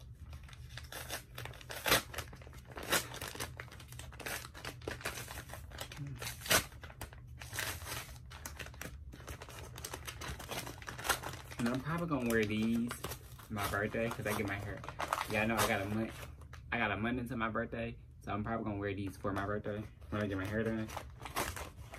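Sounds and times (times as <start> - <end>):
paper crackling and crinkling: 0.0 - 16.7, 19.0 - 21.9
paper ripping: 0.3 - 16.3, 20.1 - 21.9.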